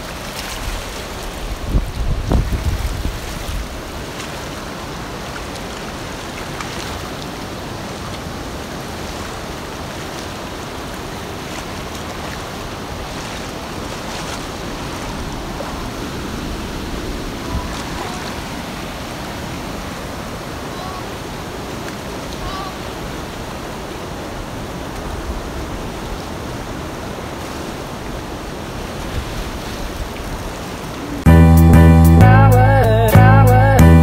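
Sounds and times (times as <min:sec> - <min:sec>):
whitewater rushing over rapids: 0:00.0 - 0:31.3.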